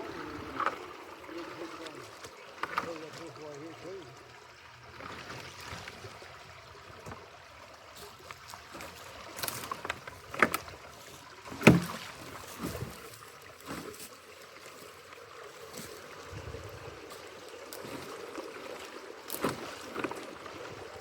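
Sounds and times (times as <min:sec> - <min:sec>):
water sloshing: 0:00.0 - 0:21.0.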